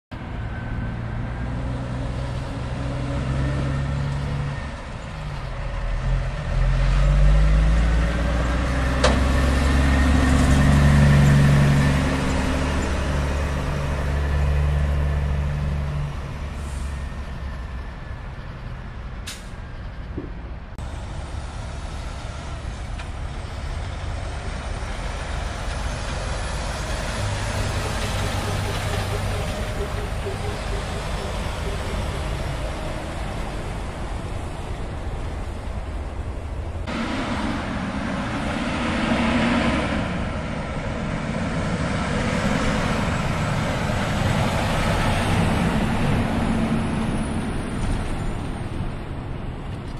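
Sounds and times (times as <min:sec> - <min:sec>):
truck diesel engine accelerating: 0:00.1 - 0:49.9.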